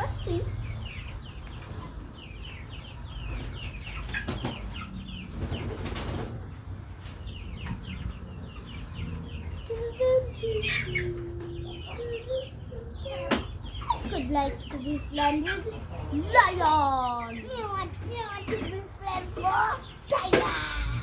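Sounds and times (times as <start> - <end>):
chickens cheeping: 0.0 - 21.0.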